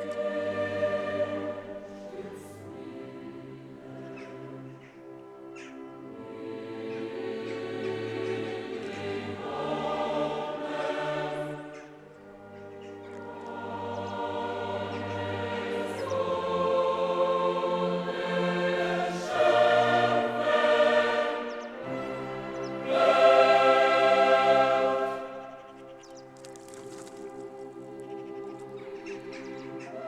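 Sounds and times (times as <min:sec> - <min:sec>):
choir singing held chords: 0:00.0 - 0:30.0.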